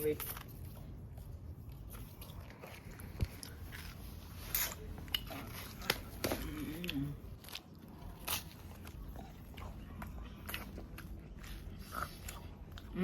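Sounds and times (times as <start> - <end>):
person chewing sandwich: 0.3 - 13.0.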